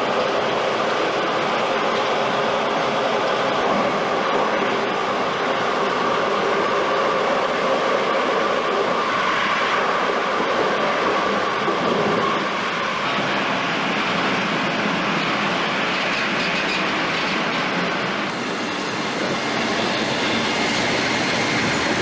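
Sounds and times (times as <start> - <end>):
locomotive whine: 0.0 - 22.0
rush of air and rail noise: 0.0 - 22.0.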